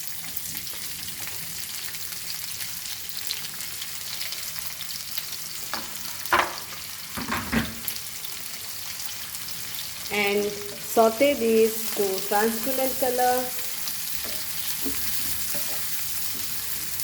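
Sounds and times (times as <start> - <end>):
spices sizzling in hot oil: 0.0 - 17.0.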